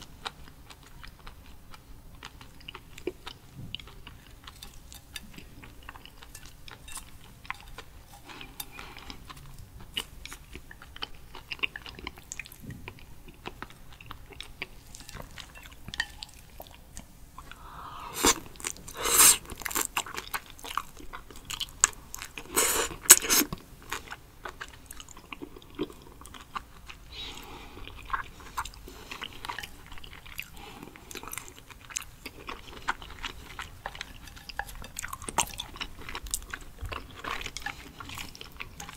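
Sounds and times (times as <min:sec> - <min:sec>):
wet chewing and smacks: 0:00.0 - 0:38.9.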